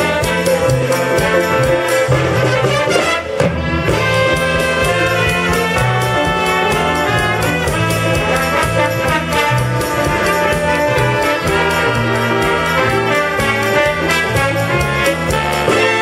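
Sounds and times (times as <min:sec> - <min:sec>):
brass section playing chords: 0:00.0 - 0:16.0
drums and cymbals: 0:00.0 - 0:16.0
moving bass line: 0:00.0 - 0:16.0
saxophones: 0:00.0 - 0:16.0.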